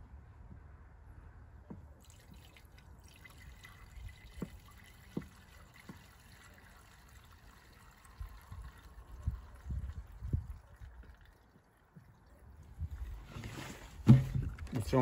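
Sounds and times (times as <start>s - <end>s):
fuel trickling into tank: 2.0s - 15.0s.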